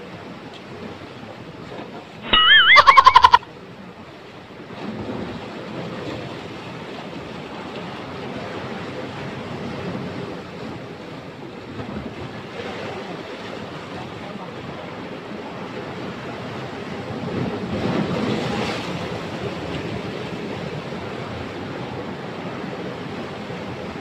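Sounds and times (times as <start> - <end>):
waves breaking on rocks: 4.6 - 24.0.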